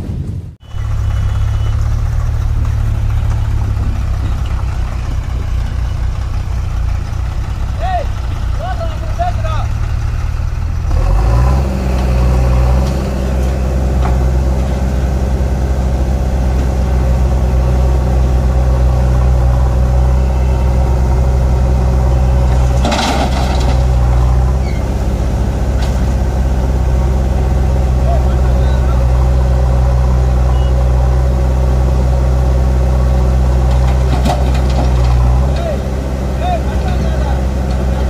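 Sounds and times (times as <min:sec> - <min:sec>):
tractor diesel engine revving: 0:00.6 - 0:38.0.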